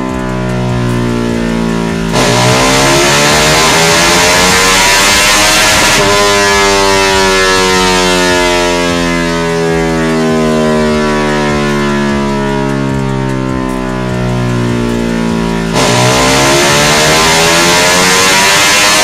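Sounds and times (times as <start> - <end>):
motorcycle engine revving down: 0.0 - 19.0.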